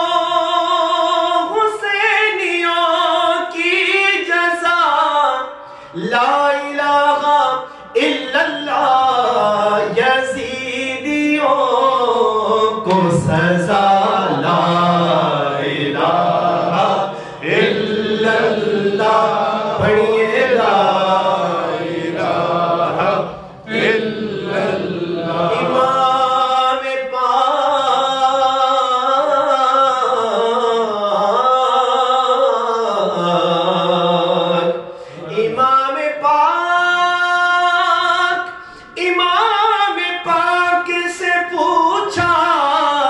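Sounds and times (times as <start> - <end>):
man chanting through microphone: 0.0 - 43.0.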